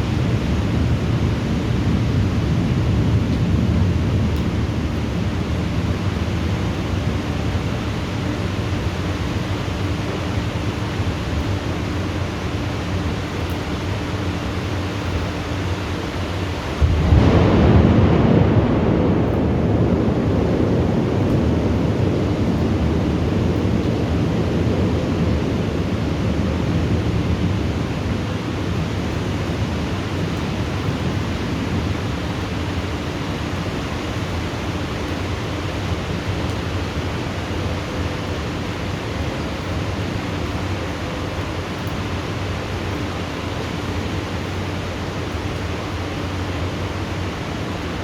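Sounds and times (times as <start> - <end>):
rumble of thunder: 0.0 - 11.4, 16.2 - 44.3
heavy rain hissing: 0.0 - 48.0.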